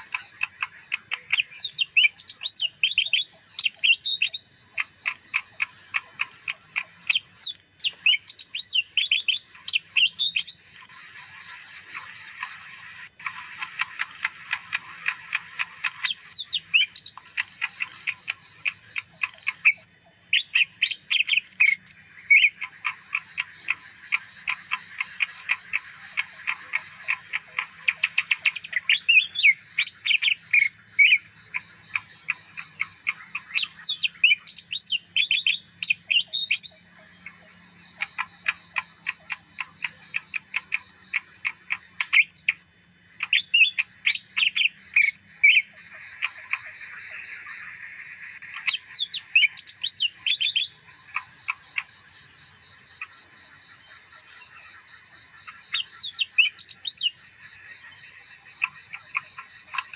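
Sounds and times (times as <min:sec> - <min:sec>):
bird song of clicks and chirps: 0:00.0 - 0:59.9.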